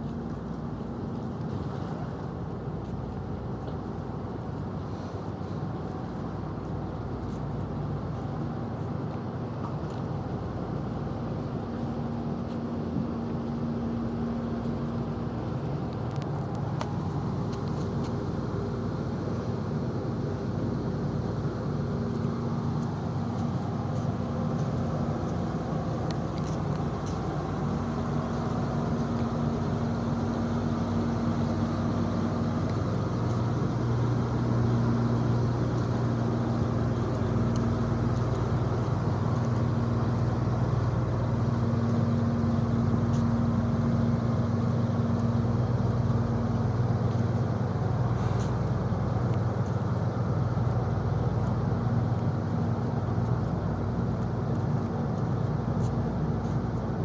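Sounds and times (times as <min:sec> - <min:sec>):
ship engine hum: 0:00.0 - 0:57.0.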